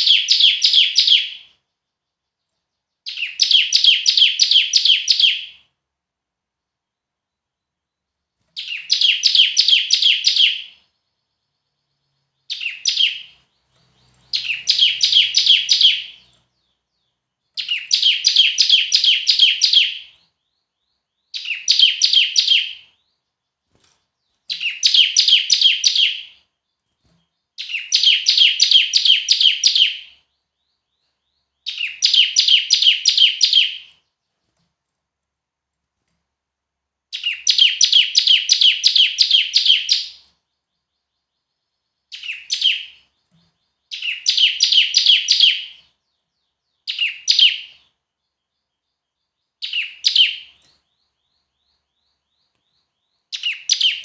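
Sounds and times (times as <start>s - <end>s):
bird chattering song: 0.0s - 5.8s, 7.2s - 34.5s, 37.1s - 54.0s.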